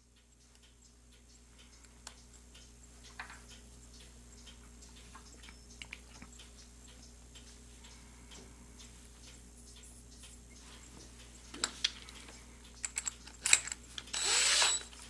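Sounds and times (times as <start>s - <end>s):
steady low hum: 0.0s - 15.0s
light clicks of small parts: 0.1s - 14.2s.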